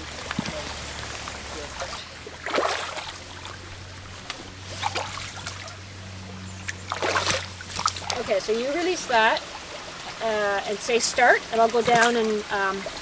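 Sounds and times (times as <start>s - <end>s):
stream trickling: 0.0s - 13.0s
water splashing: 0.0s - 13.0s.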